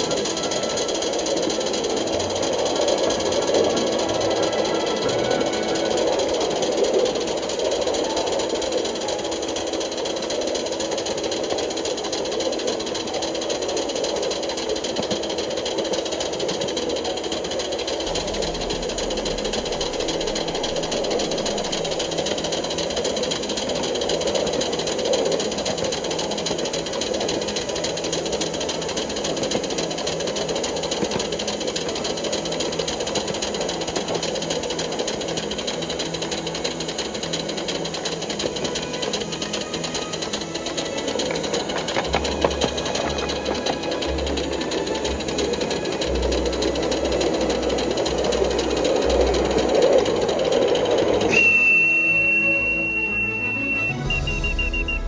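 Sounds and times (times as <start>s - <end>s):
steam locomotive exhaust beat: 0.0s - 55.0s.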